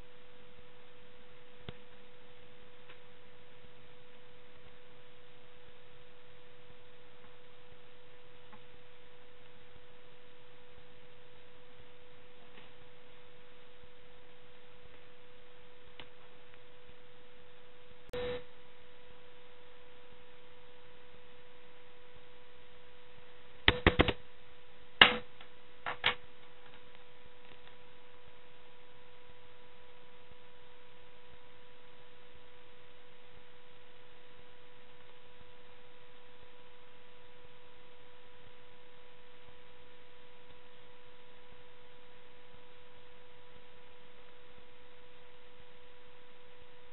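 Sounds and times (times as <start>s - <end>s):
steady hum: 0.0s - 46.9s.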